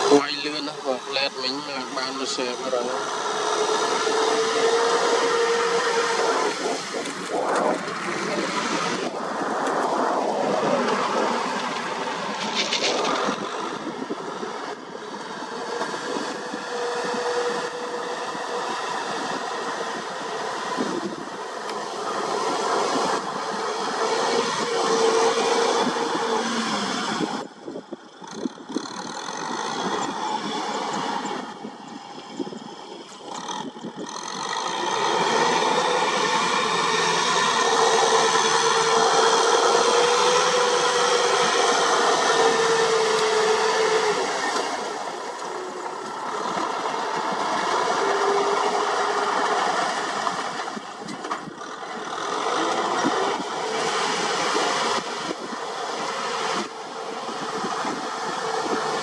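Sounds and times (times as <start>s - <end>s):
rotary tiller churning mud: 0.0s - 59.0s
tractor diesel engine under load: 0.0s - 59.0s.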